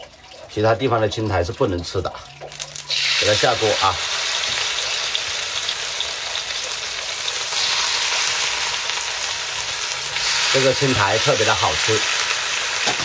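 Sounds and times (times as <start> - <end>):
moss sizzling in hot oil: 2.5 - 13.0.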